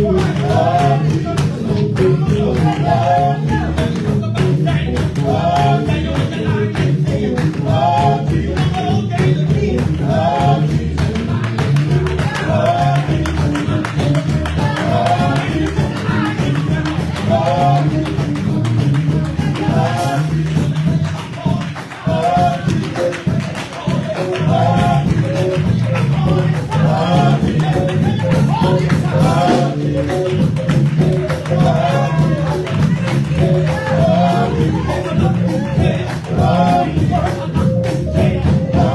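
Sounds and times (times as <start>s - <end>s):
gospel group singing with band: 0.0s - 38.9s.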